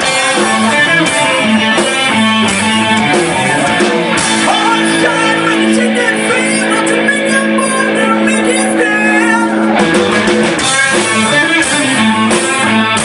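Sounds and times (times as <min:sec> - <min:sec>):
guitar strumming: 0:00.0 - 0:13.0
rock band playing: 0:00.0 - 0:13.0.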